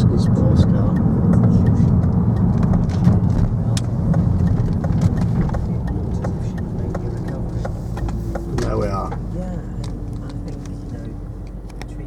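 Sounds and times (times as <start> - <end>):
car engine and road rumble: 0.0 - 12.0
light clicks: 1.0 - 12.0.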